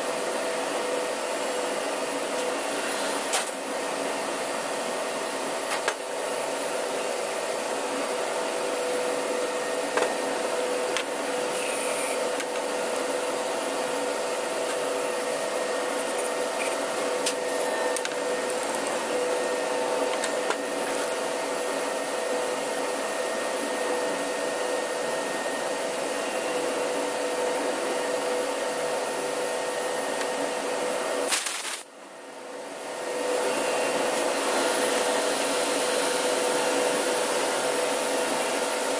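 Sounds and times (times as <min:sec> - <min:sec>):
machinery ventilation drone: 0:00.0 - 0:38.9.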